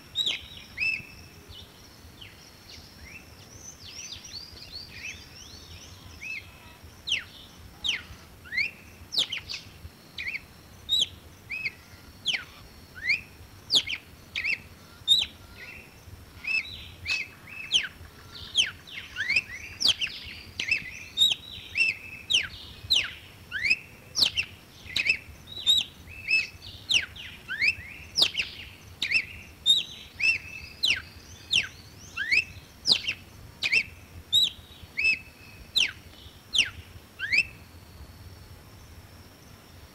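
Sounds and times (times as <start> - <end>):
cardinal whistled song: 0.0 - 6.5, 7.1 - 38.3.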